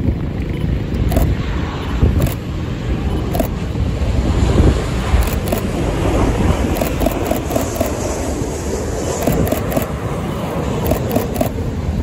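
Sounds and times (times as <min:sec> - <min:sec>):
jet airliner rumble: 0:00.0 - 0:12.0.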